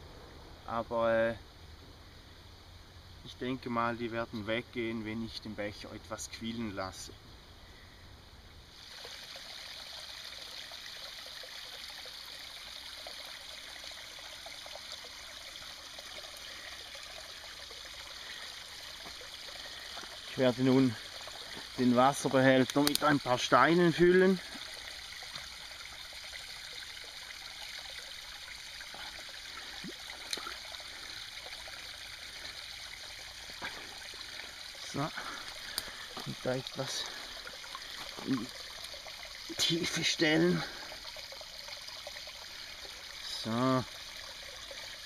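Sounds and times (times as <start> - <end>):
stream flowing over rocks: 8.7 - 45.0.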